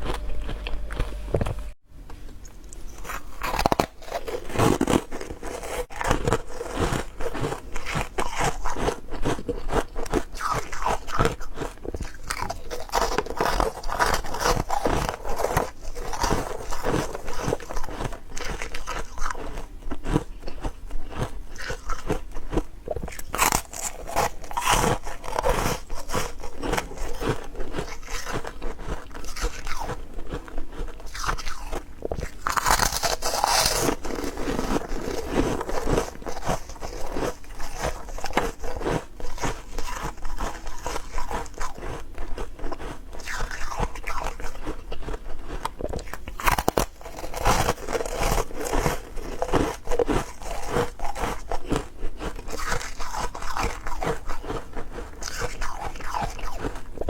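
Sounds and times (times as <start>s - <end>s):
ice cubes crunching: 2.9s - 57.0s.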